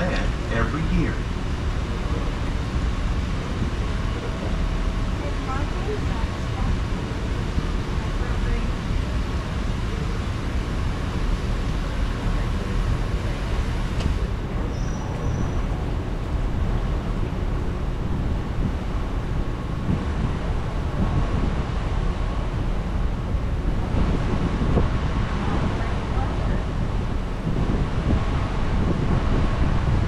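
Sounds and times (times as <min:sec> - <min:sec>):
faint steady hum: 0:00.0 - 0:30.0
ride boat gliding: 0:00.0 - 0:30.0.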